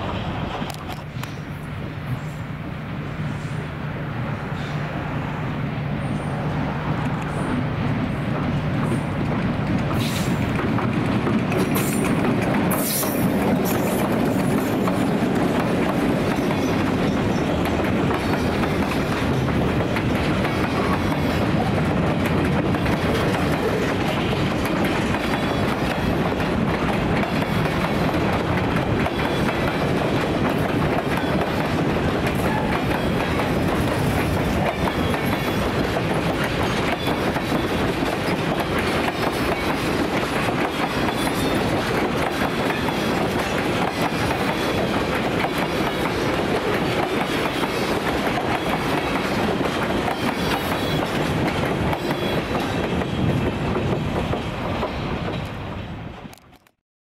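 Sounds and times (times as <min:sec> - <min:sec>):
train wheels on rails: 0:00.0 - 0:56.8.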